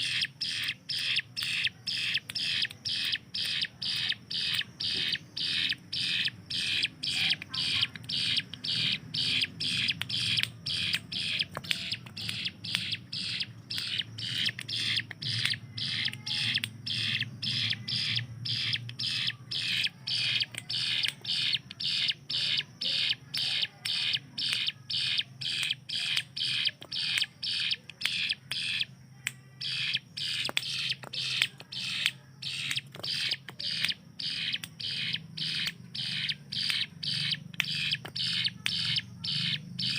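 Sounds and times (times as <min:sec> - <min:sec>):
bird calling in rapid notes: 0:00.0 - 0:39.9.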